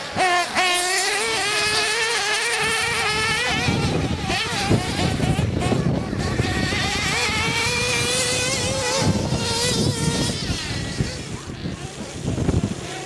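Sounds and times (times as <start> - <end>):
model car engines buzzing: 0.0 - 13.0.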